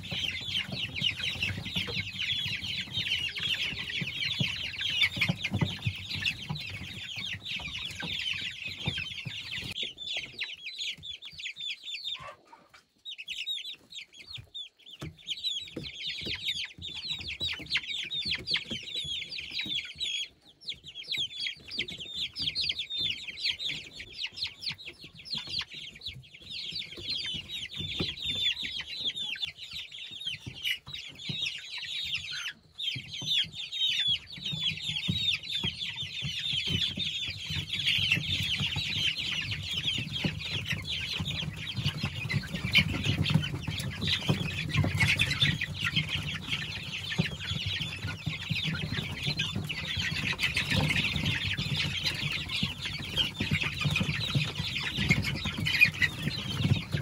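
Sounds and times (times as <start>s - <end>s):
chicks and ducklings peeping: 0.0s - 57.0s.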